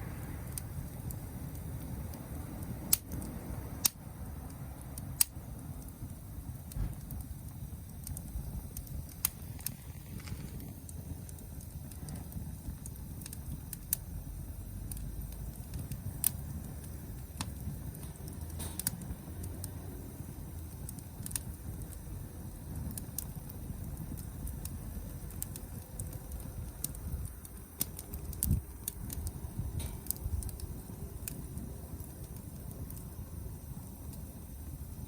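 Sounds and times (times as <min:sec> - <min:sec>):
campfire crackling: 0:00.0 - 0:35.0
low fire rumble: 0:00.0 - 0:35.0
sharp fire pops: 0:00.0 - 0:35.0.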